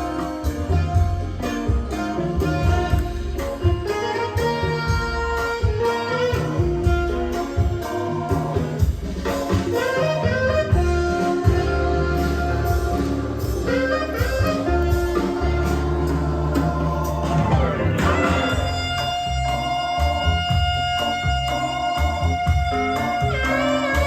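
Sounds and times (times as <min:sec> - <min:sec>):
instrumental music with steady beat: 0:00.0 - 0:24.0.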